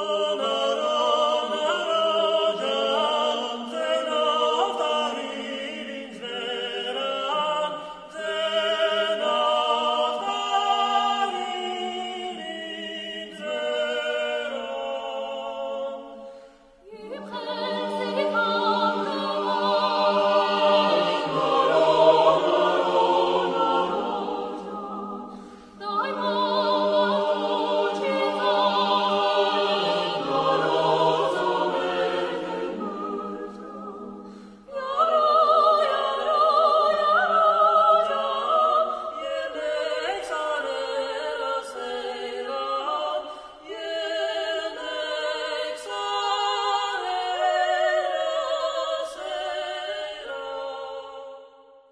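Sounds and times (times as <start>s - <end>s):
choir singing a cappella: 0.0s - 51.9s.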